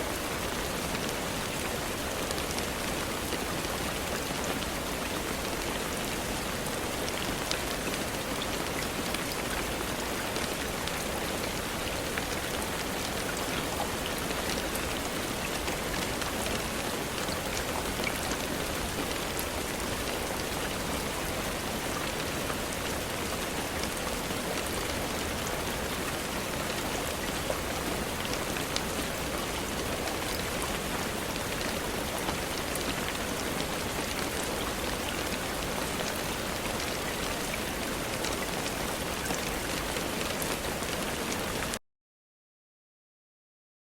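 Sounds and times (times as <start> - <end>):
rain pattering on a surface: 0.0 - 41.8.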